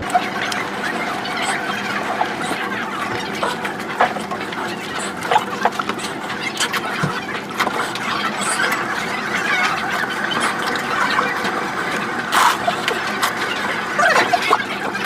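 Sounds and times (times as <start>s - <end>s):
slurping and chewing noodles: 0.0s - 15.0s.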